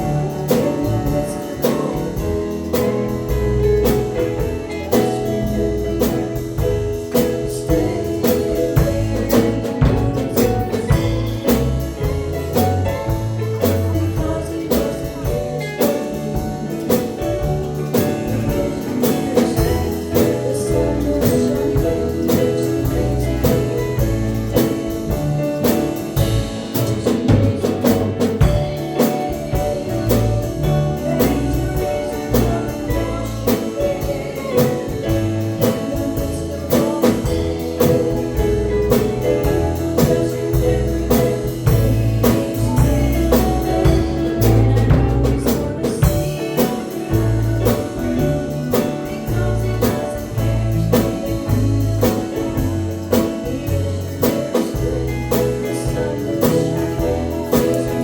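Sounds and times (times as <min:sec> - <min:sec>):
drum kit steady beat: 0:00.0 - 0:58.0
guitar: 0:00.0 - 0:58.0
person singing: 0:00.0 - 0:58.0.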